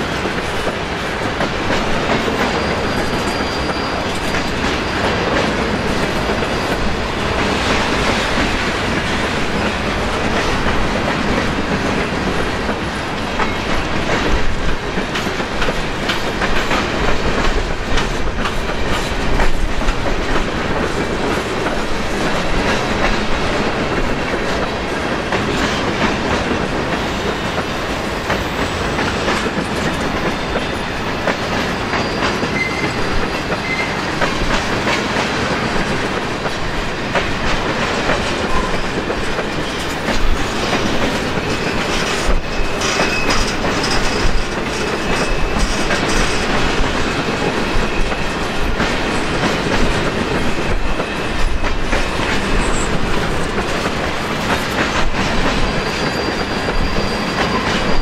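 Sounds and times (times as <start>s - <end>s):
freight train rolling past: 0.0s - 58.0s
steel wheels clicking on rails: 0.0s - 58.0s.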